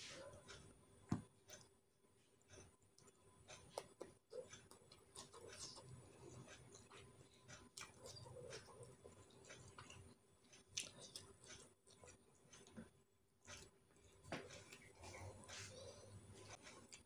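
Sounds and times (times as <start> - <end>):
chewing clicks: 2.6 - 17.0.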